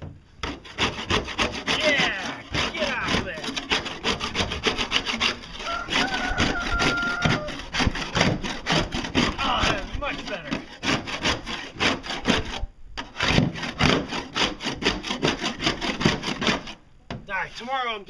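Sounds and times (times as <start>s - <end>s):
metal scraper scraping boat hull: 0.0s - 16.8s.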